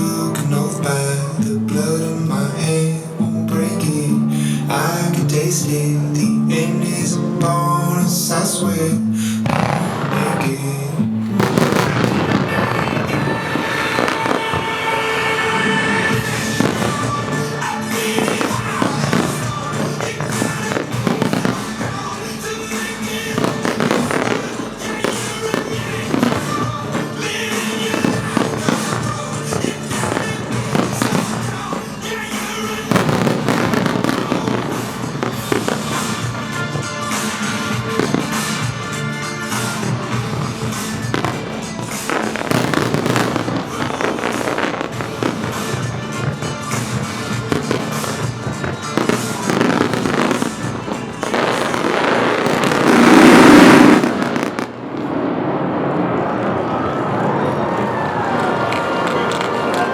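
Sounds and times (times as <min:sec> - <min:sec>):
fireworks bursting: 0:00.0 - 0:59.9
loud music: 0:00.0 - 0:59.9.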